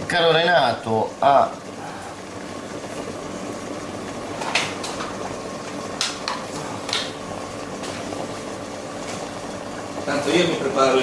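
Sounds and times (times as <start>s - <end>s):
oil popping and crackling: 0.1s - 11.0s.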